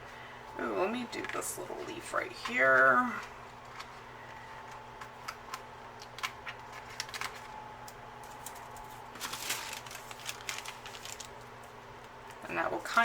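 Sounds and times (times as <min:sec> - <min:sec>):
paper sticker sheet crinkling: 0:01.2 - 0:11.8.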